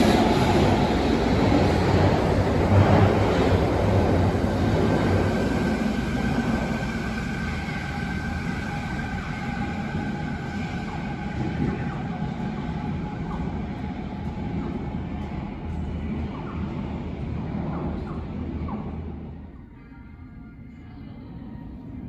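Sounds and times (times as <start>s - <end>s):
train pulling out: 0.0s - 19.5s.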